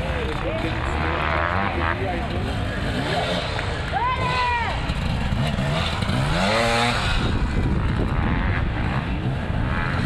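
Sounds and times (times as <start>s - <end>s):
motorcycle engines running: 0.0s - 10.0s
motorcycle revving up: 0.0s - 10.0s.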